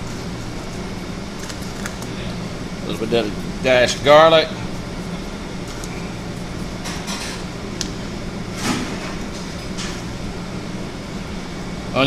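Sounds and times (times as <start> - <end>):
air conditioning hum: 0.0 - 12.0.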